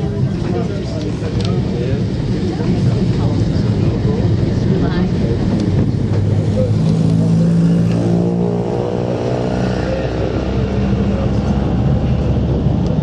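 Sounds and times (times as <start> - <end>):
tram rumbling along track: 0.0 - 13.0.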